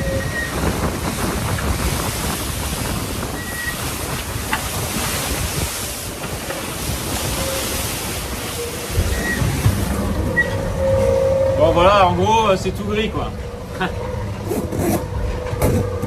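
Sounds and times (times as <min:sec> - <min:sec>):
wind and sea rushing: 0:00.0 - 0:16.0
wind buffeting microphone: 0:00.0 - 0:16.0.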